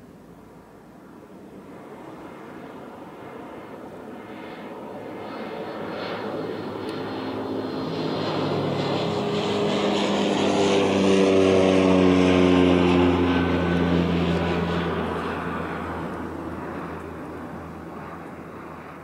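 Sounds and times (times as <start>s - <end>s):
turboprop aircraft passing: 0.0s - 19.0s.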